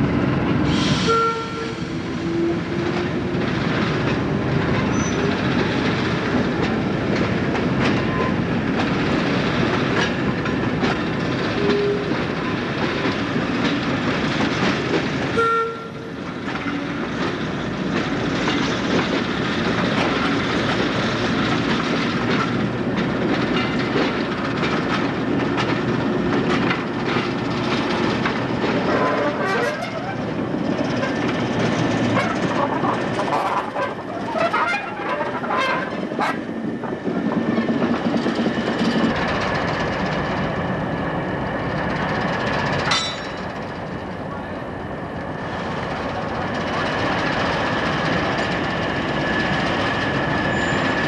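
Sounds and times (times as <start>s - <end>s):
diesel locomotive engines droning: 0.0s - 51.0s.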